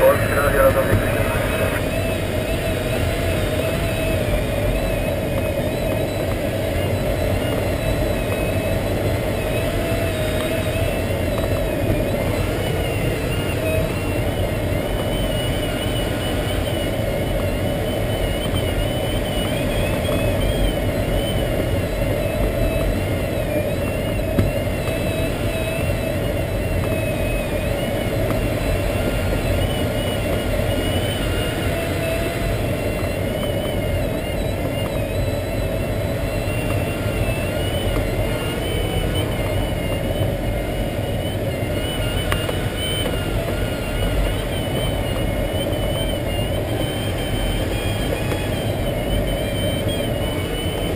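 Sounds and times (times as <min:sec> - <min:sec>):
rush of airflow in cockpit: 0:00.0 - 0:50.9.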